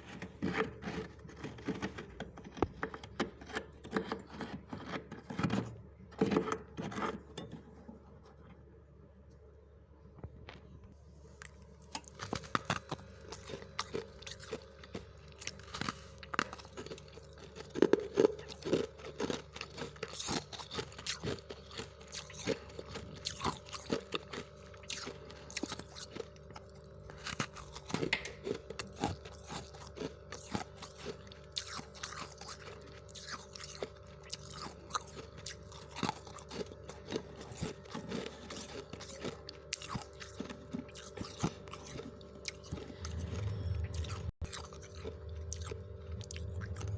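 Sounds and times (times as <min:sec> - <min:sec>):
frost being chewed: 0:00.0 - 0:05.6, 0:11.2 - 0:46.9
faint steady hum: 0:00.0 - 0:46.9.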